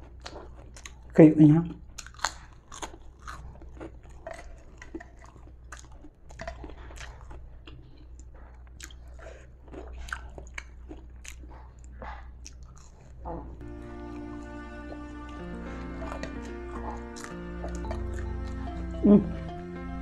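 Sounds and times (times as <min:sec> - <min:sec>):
person chewing crispy food: 0:00.0 - 0:01.2, 0:01.8 - 0:19.0.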